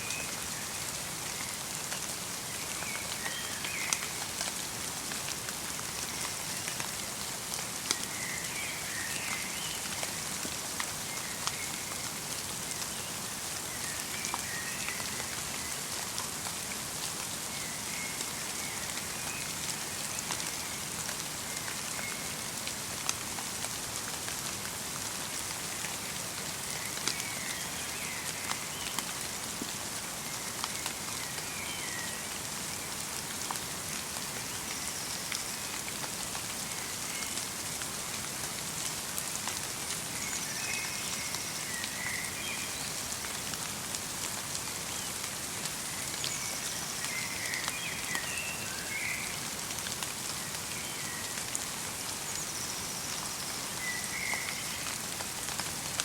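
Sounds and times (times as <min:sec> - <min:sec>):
rain and snow patter: 0:00.0 - 0:56.0.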